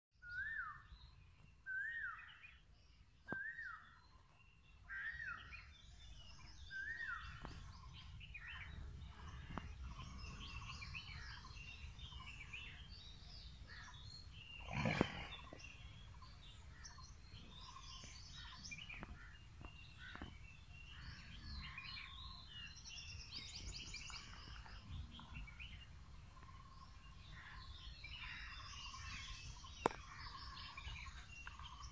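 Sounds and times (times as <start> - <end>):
birds chirping and singing: 0.2 - 31.9.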